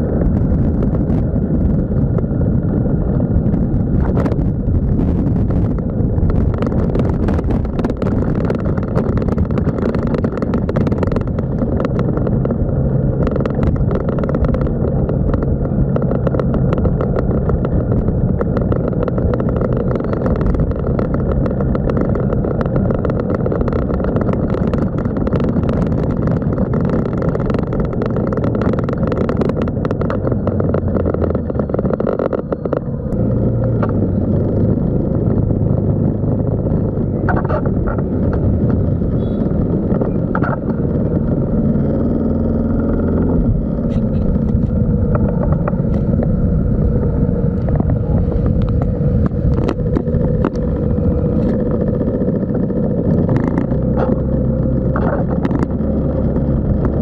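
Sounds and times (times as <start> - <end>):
motorbike engine running: 0.0 - 57.0
wind rumbling over microphone: 0.0 - 57.0
small clicks and rattles: 5.4 - 57.0.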